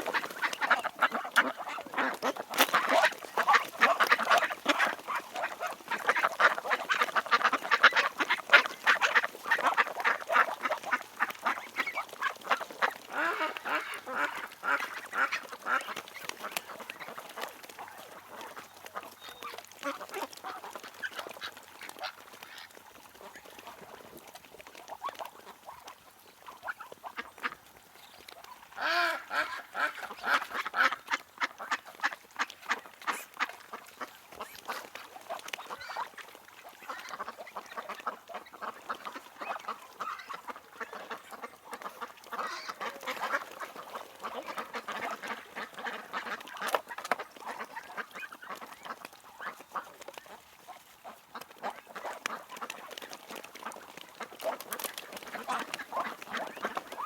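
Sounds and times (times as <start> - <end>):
ducks quacking: 0.0 - 27.8, 28.4 - 57.0.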